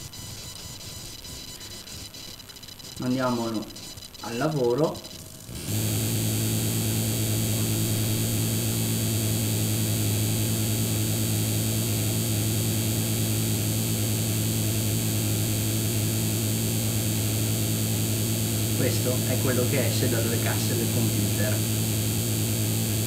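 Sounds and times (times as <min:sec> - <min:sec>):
electrical hum with hiss: 0:00.0 - 0:23.0.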